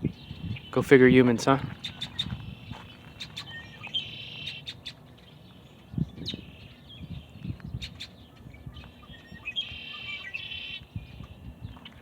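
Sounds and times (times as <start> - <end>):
wild birds chirping and trilling: 0.0 - 12.0.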